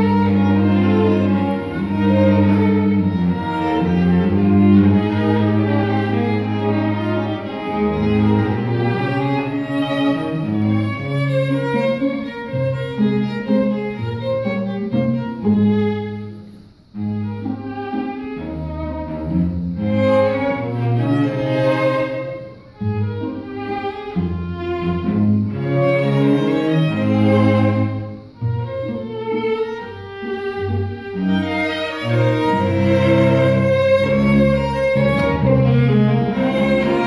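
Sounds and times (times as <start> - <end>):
string quartet playing: 0.0 - 37.0.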